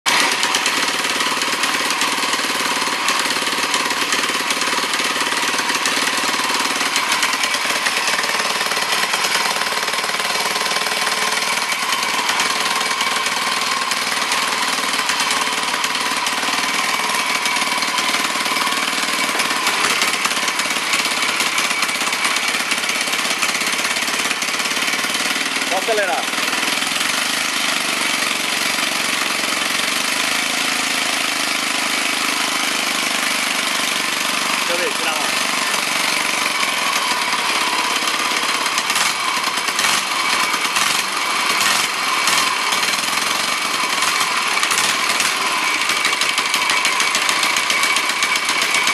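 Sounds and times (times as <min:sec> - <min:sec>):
small bicycle engine running: 0:00.1 - 0:48.9.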